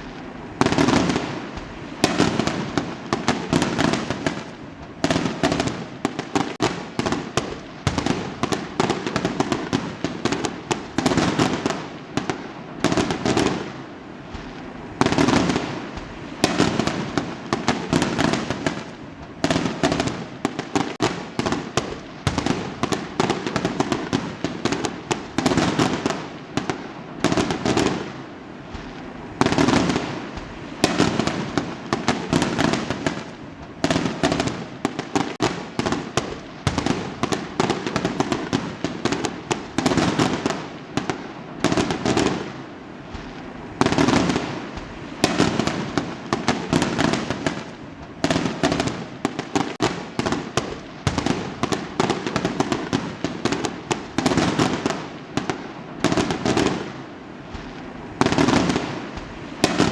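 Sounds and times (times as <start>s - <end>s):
fireworks crackling pops: 0.0s - 59.9s.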